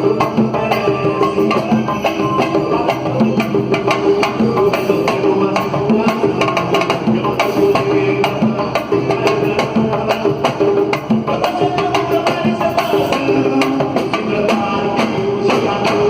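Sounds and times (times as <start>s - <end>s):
samba drums: 0.0s - 16.0s.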